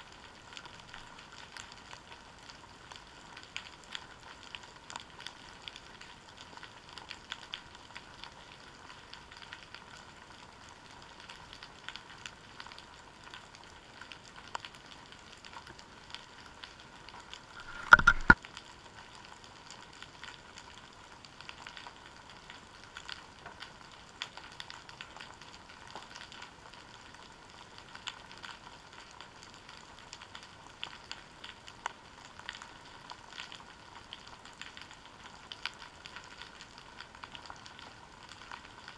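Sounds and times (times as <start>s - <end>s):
underwater crackle of tiny clicks: 0.0s - 38.9s.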